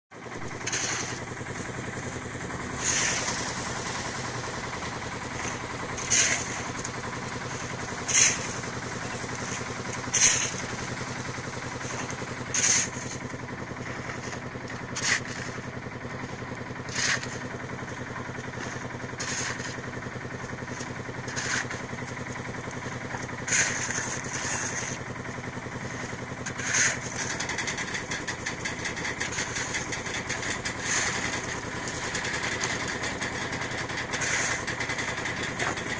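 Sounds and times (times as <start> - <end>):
construction machine engine running: 0.1 - 35.9.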